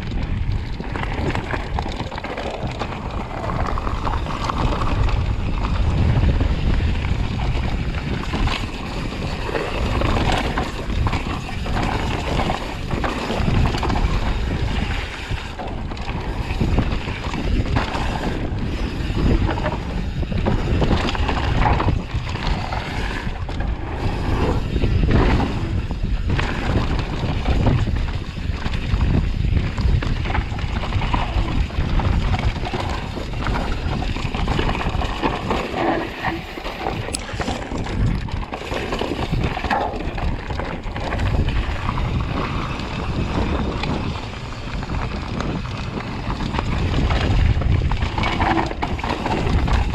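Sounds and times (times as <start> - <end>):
bike rattling and knocking: 0.0 - 49.9
tyres rumbling over dirt: 0.0 - 49.9
wind buffeting microphone: 0.0 - 49.9.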